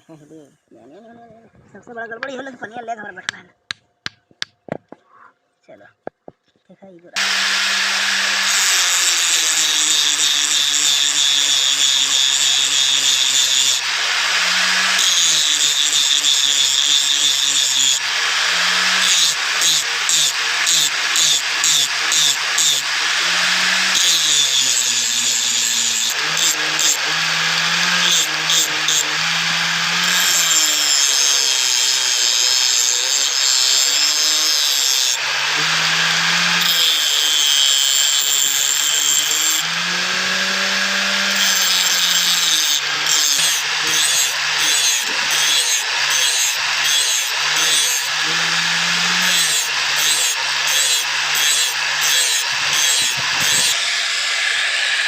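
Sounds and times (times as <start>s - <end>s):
hand file rasping on steel: 7.2s - 53.8s.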